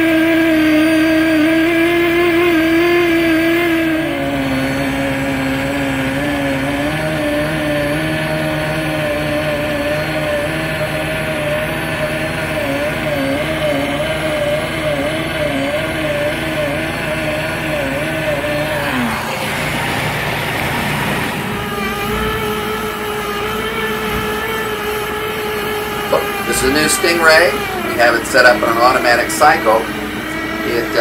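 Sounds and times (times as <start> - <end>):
machine whine of lifting spool: 0.0 - 31.0.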